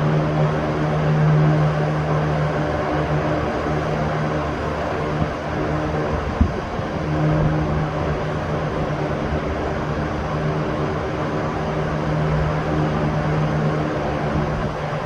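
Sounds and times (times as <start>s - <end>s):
electric fan air rush: 0.0s - 15.0s
fan motor hum: 0.0s - 15.0s.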